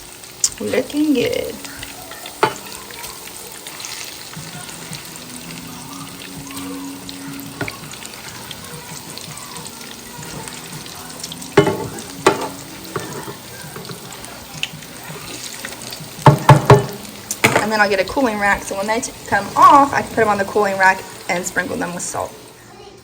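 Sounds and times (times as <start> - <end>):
fritters sizzling in a pan: 0.0 - 23.0.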